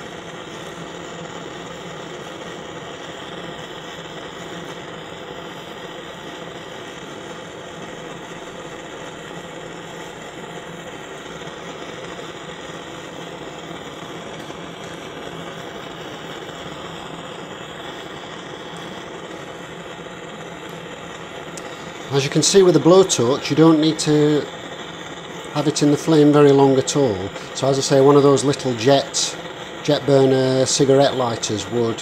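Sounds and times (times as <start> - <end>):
blowtorch flame burning: 0.0 - 32.0.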